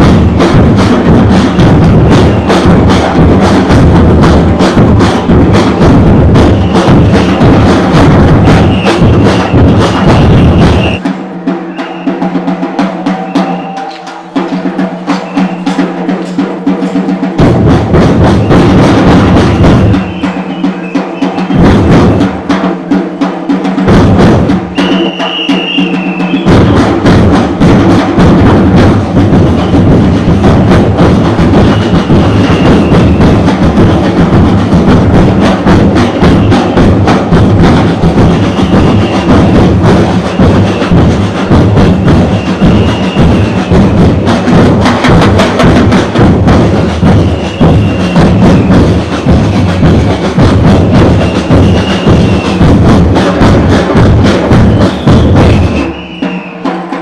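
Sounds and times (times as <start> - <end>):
bass drums: 0.0 - 11.1, 11.7 - 56.2
drum troupe playing fast rhythm: 0.0 - 57.0
snare drums: 0.0 - 57.0.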